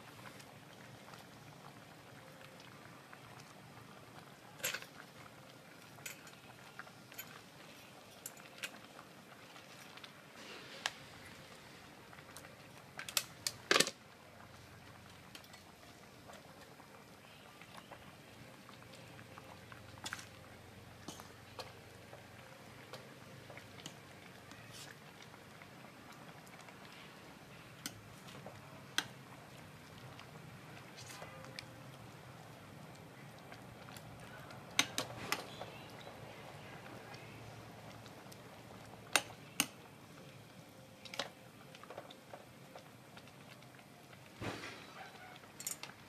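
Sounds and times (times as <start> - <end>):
soup simmering with low hiss: 0.0 - 46.0.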